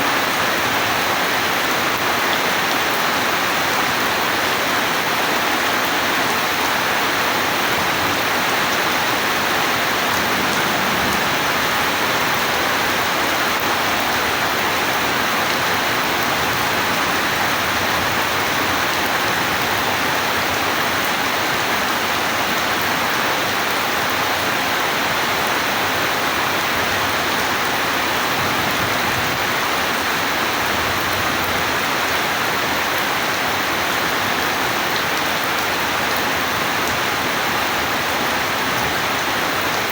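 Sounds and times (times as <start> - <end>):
heavy rain hiss: 0.1 - 39.5.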